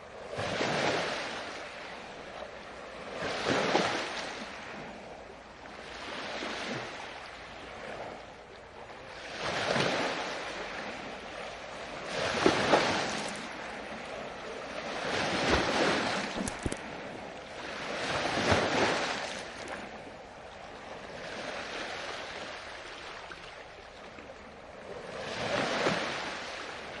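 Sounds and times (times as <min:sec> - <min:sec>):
ocean waves breaking: 0:00.0 - 0:27.0.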